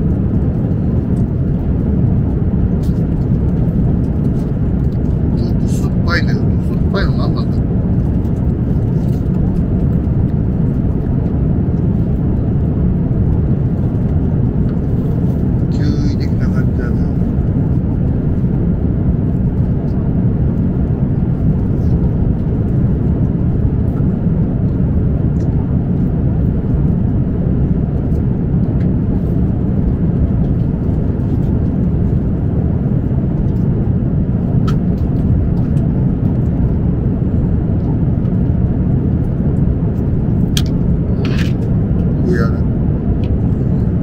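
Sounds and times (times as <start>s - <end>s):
airliner cabin noise: 0.0s - 44.0s.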